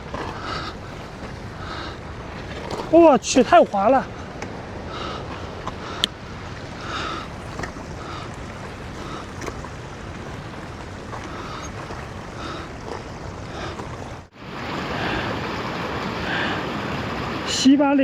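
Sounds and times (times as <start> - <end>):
running mountain water: 0.0 - 18.0.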